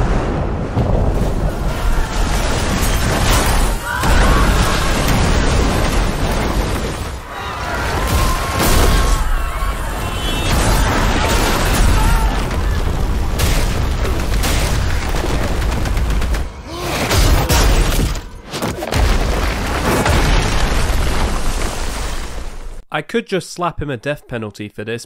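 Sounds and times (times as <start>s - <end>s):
crashing rock and debris: 0.0s - 16.3s, 17.6s - 22.6s.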